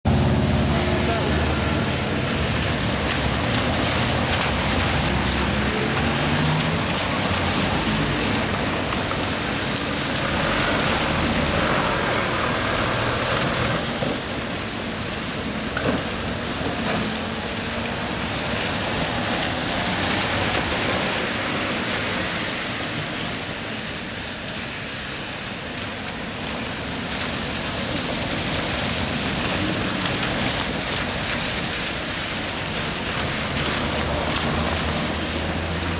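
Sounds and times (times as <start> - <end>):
vehicles on wet road: 0.0 - 35.9
rain hissing: 0.1 - 35.9.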